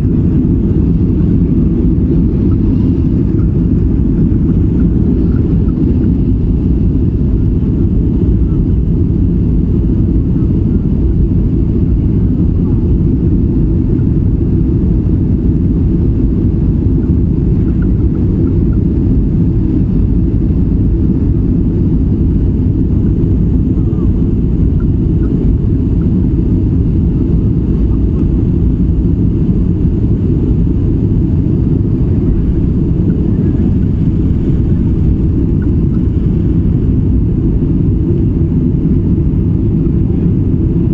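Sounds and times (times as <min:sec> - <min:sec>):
jet engine rumble inside cabin: 0:00.0 - 0:40.9
plane rolling noise: 0:00.0 - 0:40.9.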